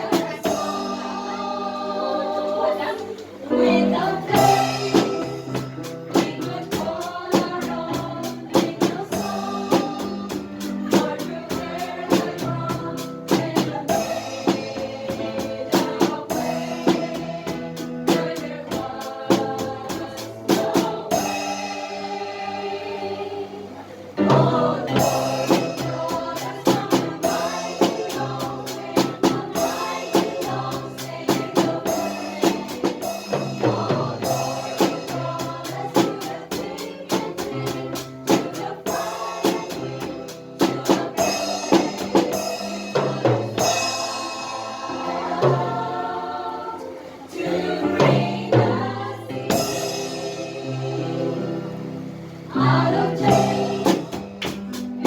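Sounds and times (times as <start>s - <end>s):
drum kit beat: 0.0s - 2.2s, 3.6s - 22.6s, 24.2s - 46.5s, 47.6s - 51.6s, 52.5s - 55.0s
band playing: 0.0s - 22.7s, 24.2s - 55.0s
choir singing gospel: 0.0s - 55.0s.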